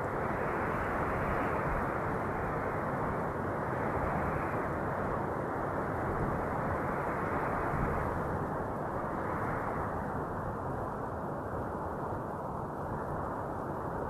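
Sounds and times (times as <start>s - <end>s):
steady rushing wind: 0.0s - 14.0s.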